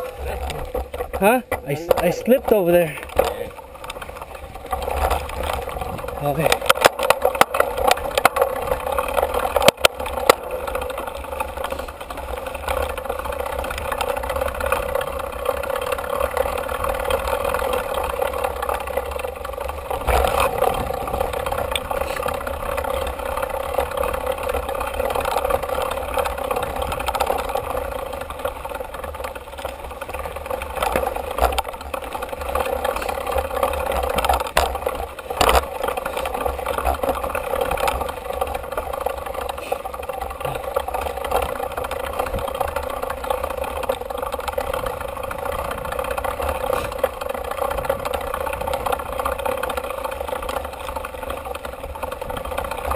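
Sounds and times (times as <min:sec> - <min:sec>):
bike rattling and knocking: 0:00.0 - 0:52.9
rushing noise of tyres and air: 0:02.8 - 0:52.9.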